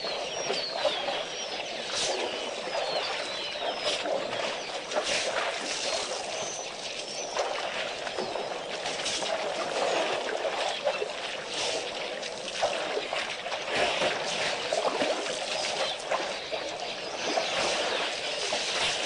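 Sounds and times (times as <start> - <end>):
shallow water splashing: 0.0 - 19.0.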